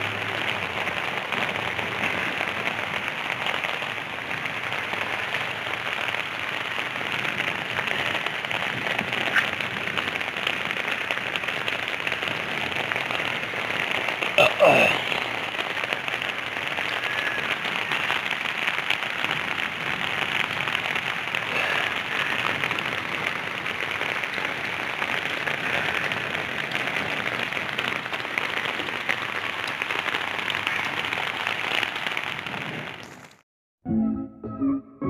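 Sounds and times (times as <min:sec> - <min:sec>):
rain pattering on roofs: 0:00.0 - 0:33.4.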